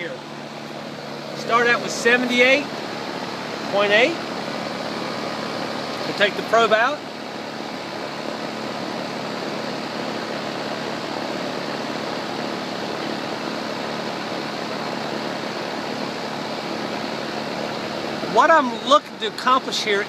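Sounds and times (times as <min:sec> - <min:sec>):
air conditioner fan rushing: 0:00.0 - 0:20.0.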